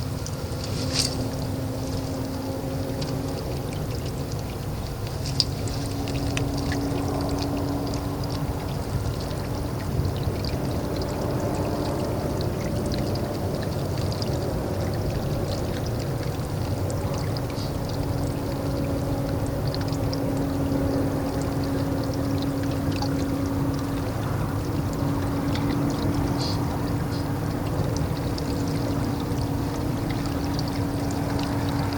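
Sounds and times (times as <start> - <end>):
small splashy ticks: 0.0 - 31.9
steady low hum: 0.0 - 31.9
water pouring and lapping: 0.0 - 31.9.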